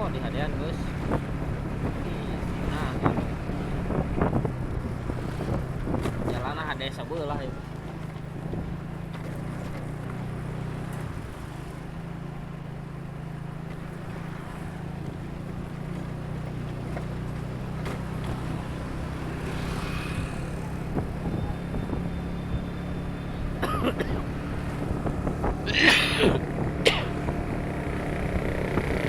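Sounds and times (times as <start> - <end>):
road and traffic noise: 0.0 - 29.0
vehicle engine humming: 0.0 - 29.0.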